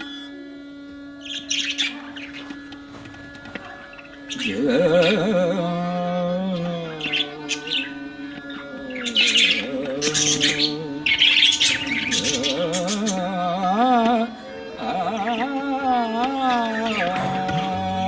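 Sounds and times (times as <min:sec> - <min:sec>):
devotional background music: 0:00.0 - 0:18.0
cage birds chirping: 0:00.9 - 0:18.0.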